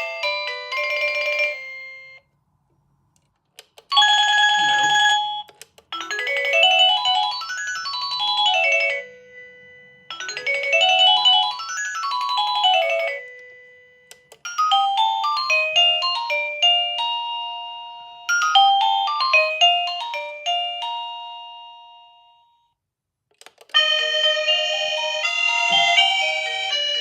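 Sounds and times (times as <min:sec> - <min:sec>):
doorbell chime melody: 0:00.0 - 0:02.2, 0:03.9 - 0:22.8, 0:23.8 - 0:27.0.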